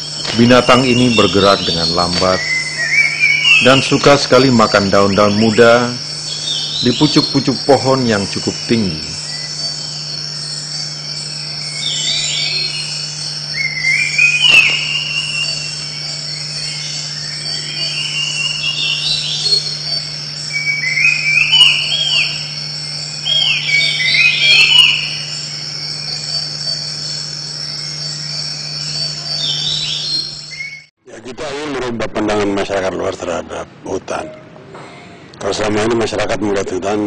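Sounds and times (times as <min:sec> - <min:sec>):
gliding bird calls: 0:00.0 - 0:30.9
high insect drone: 0:00.0 - 0:33.6.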